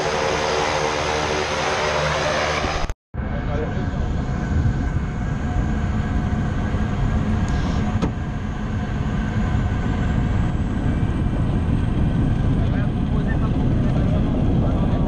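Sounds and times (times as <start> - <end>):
rushing buffeting noise: 0.0 - 15.0
small plane engine droning: 0.0 - 15.0.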